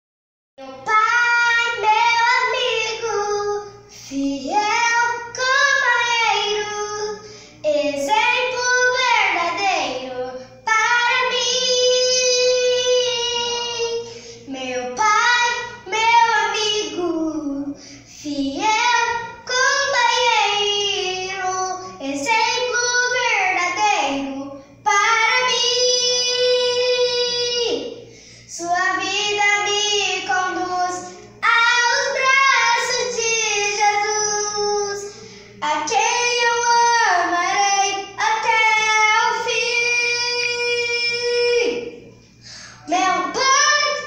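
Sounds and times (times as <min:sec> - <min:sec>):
girl singing unaccompanied: 0:00.6 - 0:44.0.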